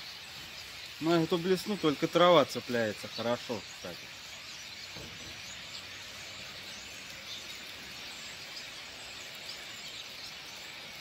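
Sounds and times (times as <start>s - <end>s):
faint bird chirps: 0.0s - 11.0s
faint open-air background noise: 0.0s - 11.0s.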